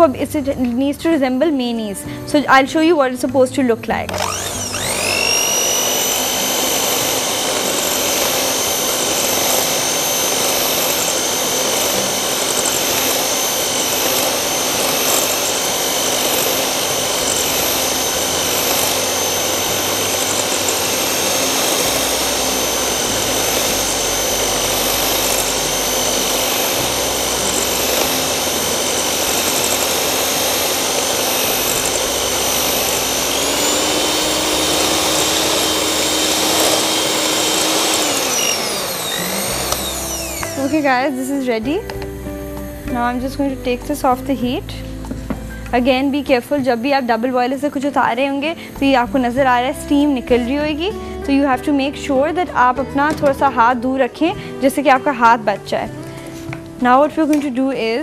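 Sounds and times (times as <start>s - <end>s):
electric hand mixer whining: 4.0s - 57.9s.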